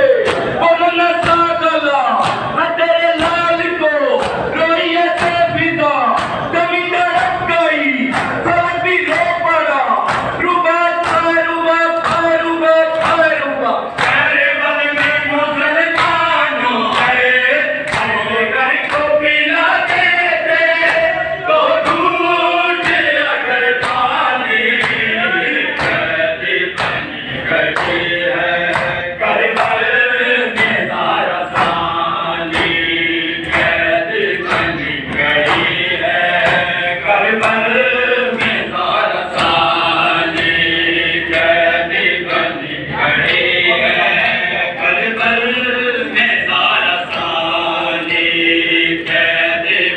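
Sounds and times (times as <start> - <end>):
men chanting in unison: 0.0 - 49.9
rhythmic chest-beating: 0.0 - 49.9.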